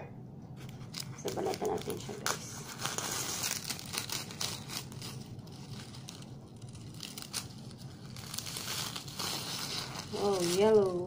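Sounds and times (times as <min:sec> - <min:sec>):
dry corn husks crackling and tearing: 0:01.2 - 0:11.0.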